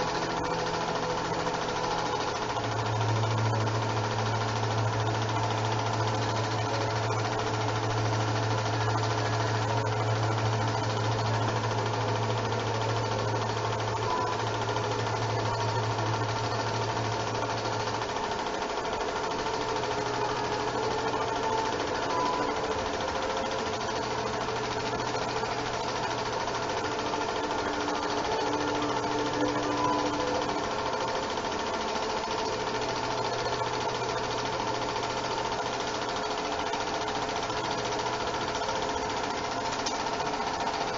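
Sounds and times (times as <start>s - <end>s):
film projector rattling: 0.0s - 40.9s
motor hum: 0.0s - 40.9s.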